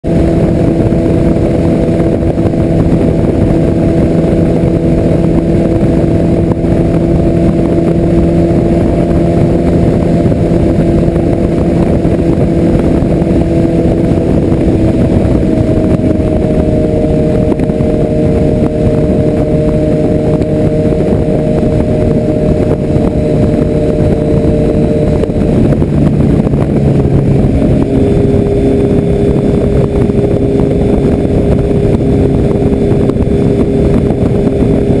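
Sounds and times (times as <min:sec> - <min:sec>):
heavy wind rush: 0:00.0 - 0:35.0
motorcycle engine running: 0:00.0 - 0:35.0.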